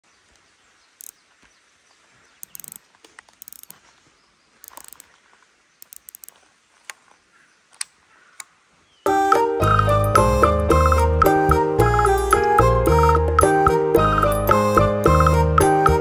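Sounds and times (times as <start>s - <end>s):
faint outdoor hiss: 0.0s - 15.8s.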